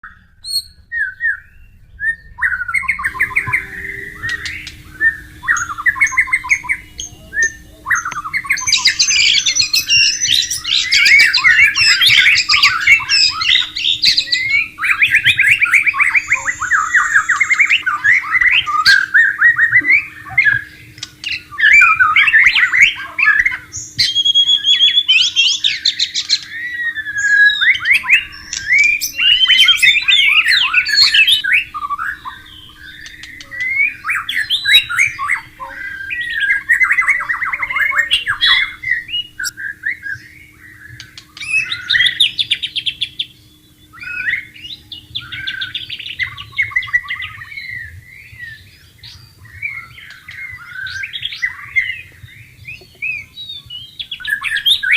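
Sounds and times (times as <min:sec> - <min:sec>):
bird singing whistles and trills: 0:00.0 - 0:54.9
steady low hum: 0:00.0 - 0:54.9.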